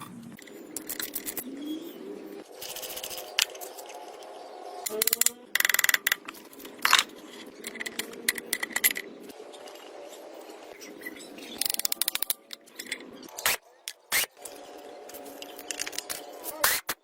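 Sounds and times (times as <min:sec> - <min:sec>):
metal parts and tools clinking: 0:00.0 - 0:01.5, 0:02.6 - 0:10.2, 0:10.8 - 0:16.9.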